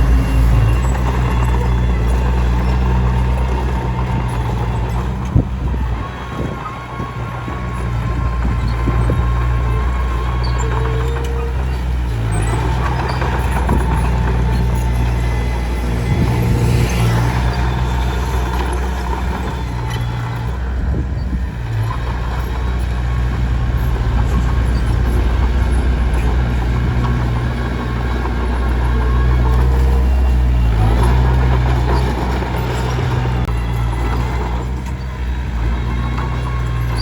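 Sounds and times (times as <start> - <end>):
bulldozer diesel engine: 0.0 - 37.0
grinding noise: 0.0 - 37.0.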